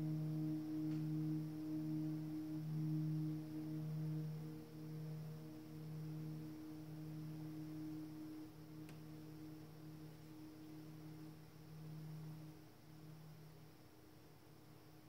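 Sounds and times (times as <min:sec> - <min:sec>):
low synthesizer drone: 0:00.0 - 0:15.0.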